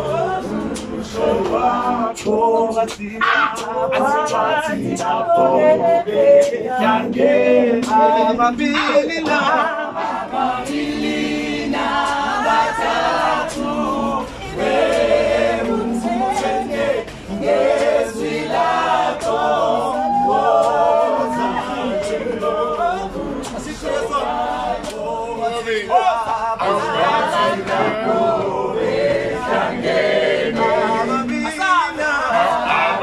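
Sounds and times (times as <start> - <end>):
group singing a cappella: 0.0 - 33.0.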